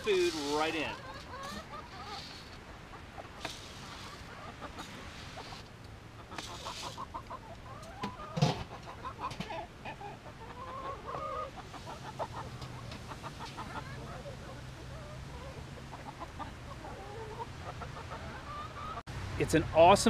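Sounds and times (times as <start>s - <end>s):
chickens clucking: 0.0s - 19.6s.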